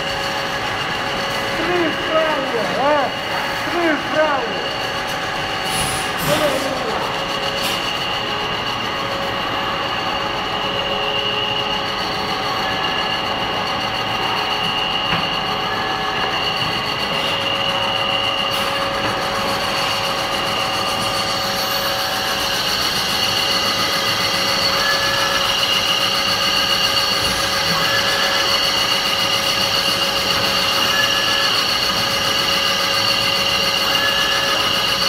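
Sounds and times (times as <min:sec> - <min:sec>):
conveyor machine hum: 0:00.0 - 0:35.0
whining machine tones: 0:00.0 - 0:35.0.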